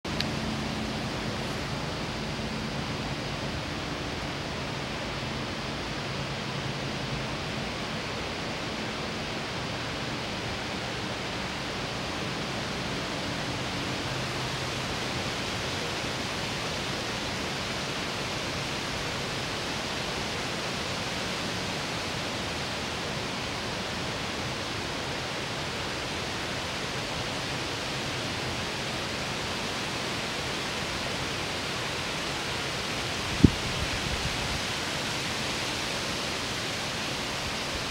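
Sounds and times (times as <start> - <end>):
steady rushing hiss: 0.1 - 37.9.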